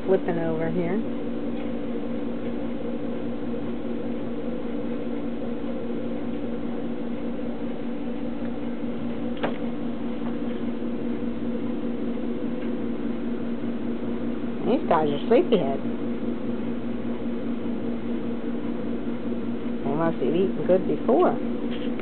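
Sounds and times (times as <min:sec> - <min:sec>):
electric appliance hum: 0:00.0 - 0:22.0.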